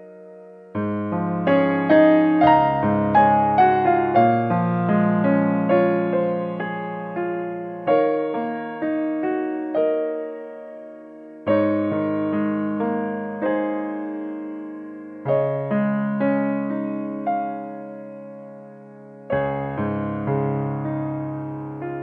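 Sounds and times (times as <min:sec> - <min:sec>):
gentle piano chords: 0:00.0 - 0:22.0.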